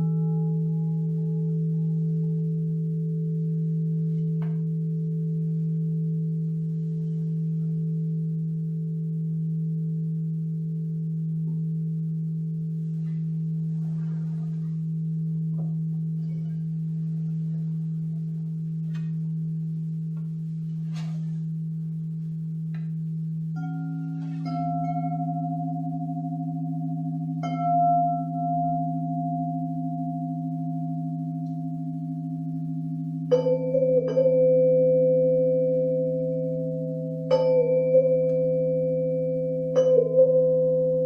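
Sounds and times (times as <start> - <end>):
higher bowl struck ringing: 0.0 - 41.0
low singing bowl humming: 0.0 - 41.0.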